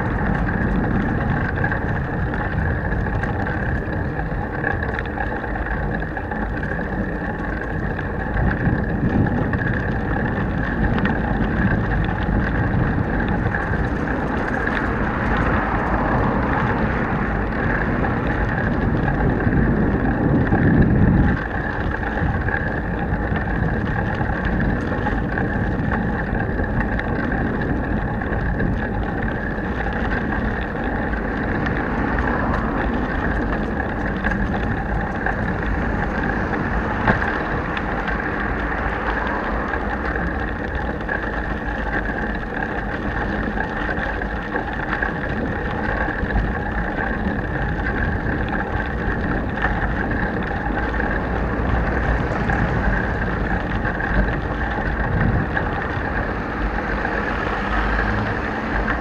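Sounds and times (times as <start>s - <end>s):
bicycle rolling rumble over paving: 0.0s - 59.0s
wind buffeting microphone: 0.0s - 59.0s.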